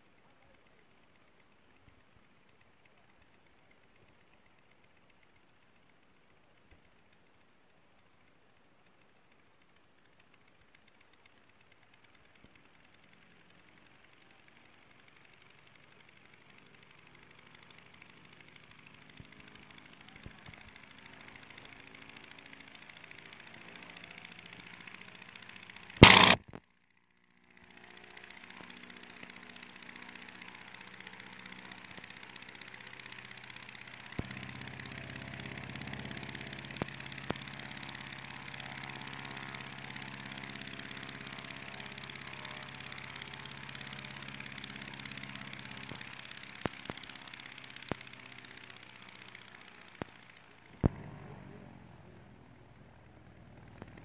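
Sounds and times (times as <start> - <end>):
propeller plane engine running: 8.8 - 26.4, 27.6 - 54.0.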